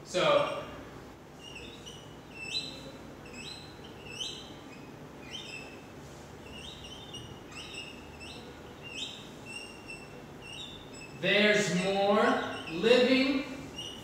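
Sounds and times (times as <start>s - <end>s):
marker squeaking on whiteboard: 0.2s - 14.0s.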